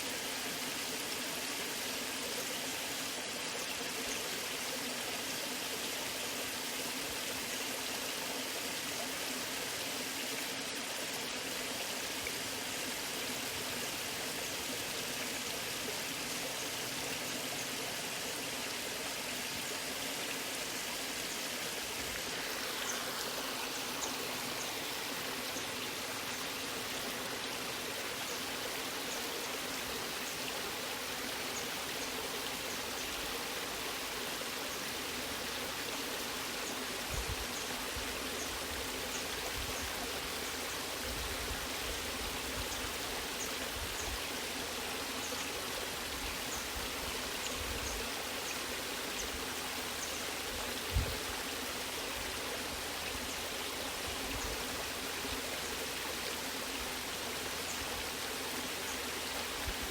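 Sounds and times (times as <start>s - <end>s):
waterfall rushing water: 0.0s - 59.9s.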